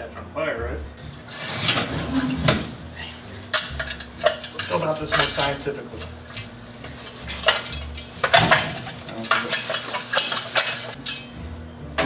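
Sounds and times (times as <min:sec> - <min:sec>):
hard objects clattering: 0:01.0 - 0:11.4.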